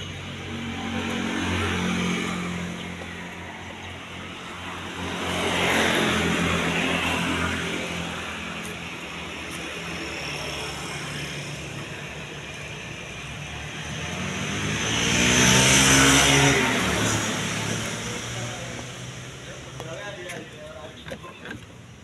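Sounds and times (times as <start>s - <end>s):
vehicle passing by: 0.0s - 12.3s, 13.2s - 19.5s.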